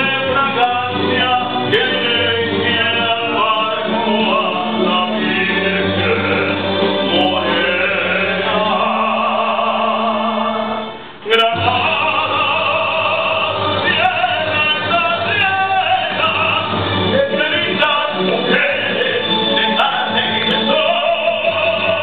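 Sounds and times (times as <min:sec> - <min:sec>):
instrumental accompaniment: 0:00.0 - 0:22.0
man singing operatically: 0:00.0 - 0:22.0.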